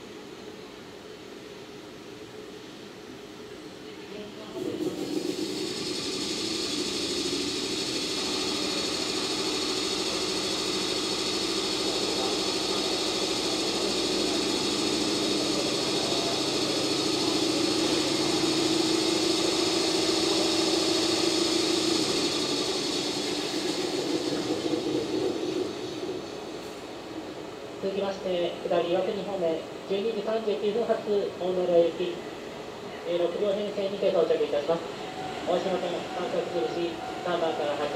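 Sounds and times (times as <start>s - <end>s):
air compressor humming and hissing: 0.0s - 37.9s.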